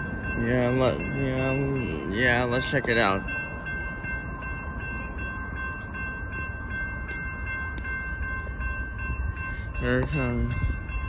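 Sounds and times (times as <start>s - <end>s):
railroad crossing bell ringing: 0.0s - 11.0s.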